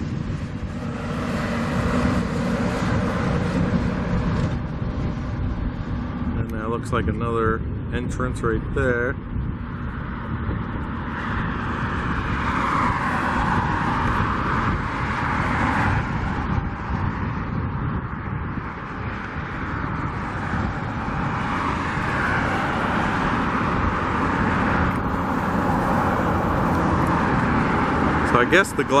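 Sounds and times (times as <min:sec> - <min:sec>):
strong wind buffeting microphone: 0:00.0 - 0:29.0.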